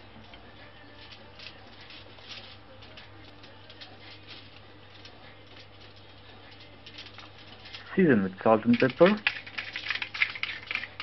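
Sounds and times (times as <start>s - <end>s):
low steady hum: 0.0s - 11.0s
foil crinkling: 0.2s - 11.0s.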